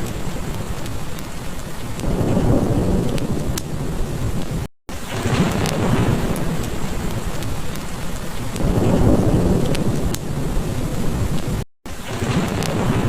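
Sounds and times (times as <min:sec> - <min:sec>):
heavy rain falling: 0:00.0 - 0:13.0
rolling thunder rumble: 0:00.0 - 0:13.0
wood fire crackles: 0:00.0 - 0:13.0.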